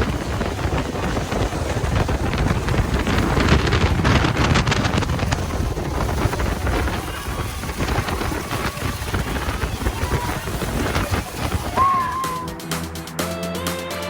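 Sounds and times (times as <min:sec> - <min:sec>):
wind buffeting microphone: 0:00.0 - 0:12.6
boat engine running: 0:00.0 - 0:13.9.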